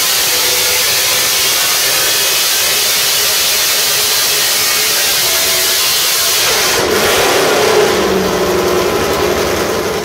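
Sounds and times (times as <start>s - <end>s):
race engine running at high revs: 0.0s - 10.0s.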